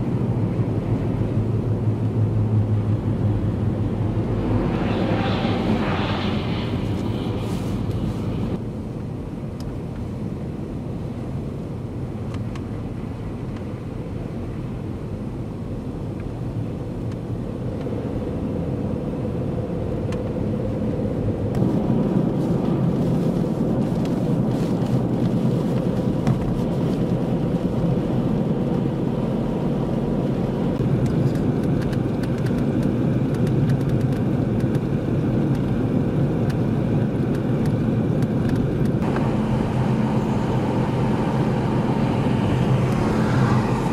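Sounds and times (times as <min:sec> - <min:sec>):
road and wind noise in vehicle: 0:00.0 - 0:43.9.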